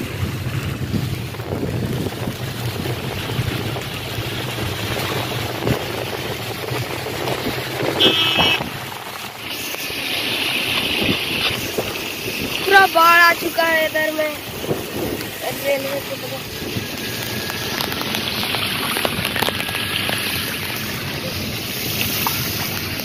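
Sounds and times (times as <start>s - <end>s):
car engine and road noise: 0.0s - 23.0s
rain and tyres hissing: 0.0s - 23.0s
rush of wind and rain: 0.0s - 23.0s.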